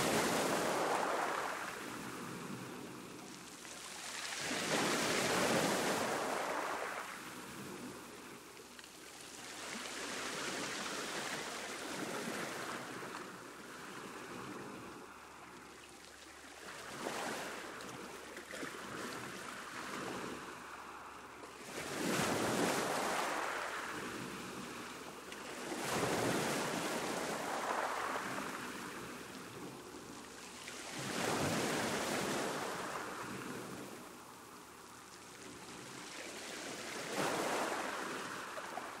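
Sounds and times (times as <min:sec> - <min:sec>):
sea waves breaking on a beach: 0:00.0 - 0:39.0.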